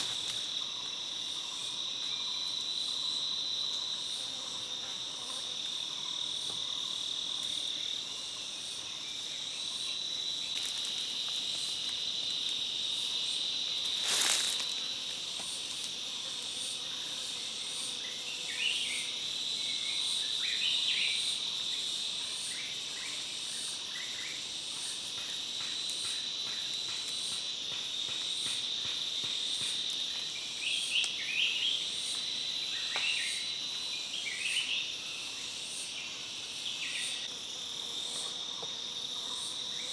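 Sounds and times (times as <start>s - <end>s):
insects droning: 0.0s - 39.9s
pulsing insect chirp: 0.0s - 39.9s.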